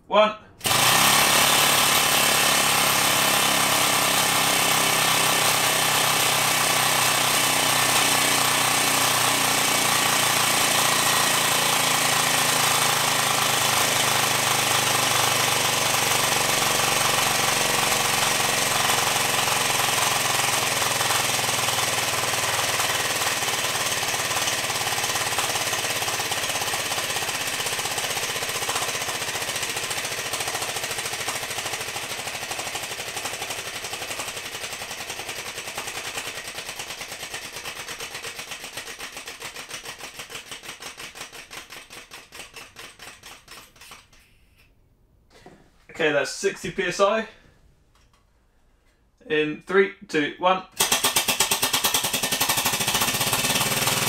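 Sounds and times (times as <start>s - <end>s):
compressed air engine running fast: 0.6s - 44.6s, 50.8s - 54.0s.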